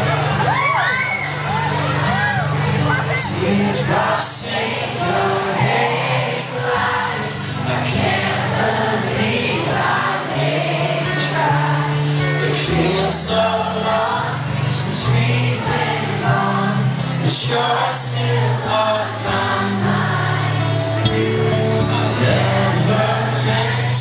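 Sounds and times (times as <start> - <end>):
acoustic guitar: 0.0 - 24.0
man singing into microphone: 3.1 - 24.0.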